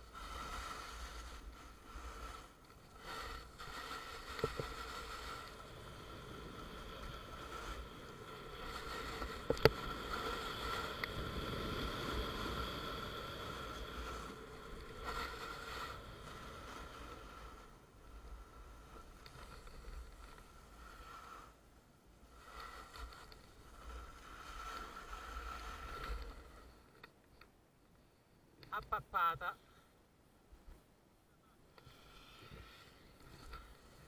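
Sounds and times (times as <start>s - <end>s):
snowboard scraping over snow: 0.0s - 26.9s, 31.9s - 34.0s.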